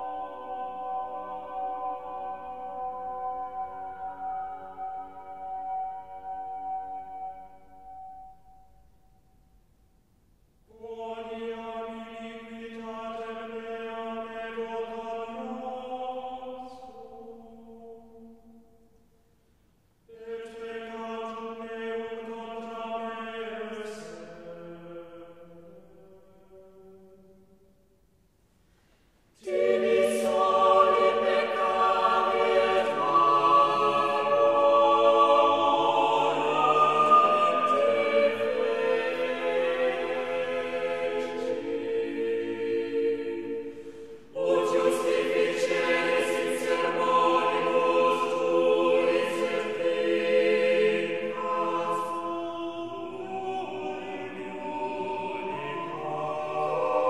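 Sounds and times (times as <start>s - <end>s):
slow sung chant: 0.0s - 8.4s, 10.6s - 19.0s, 20.1s - 27.7s, 29.3s - 57.0s
choir singing sustained chords: 0.0s - 9.7s, 10.4s - 19.4s, 20.0s - 28.1s, 29.2s - 57.0s.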